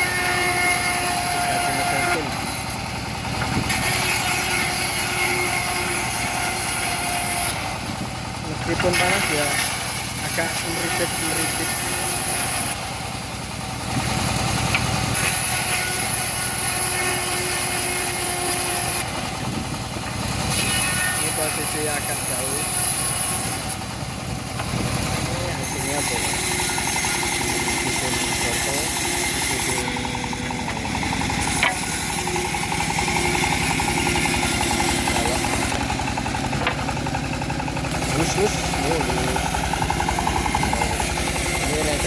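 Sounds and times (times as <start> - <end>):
sawmill engine running: 0.0 - 42.0.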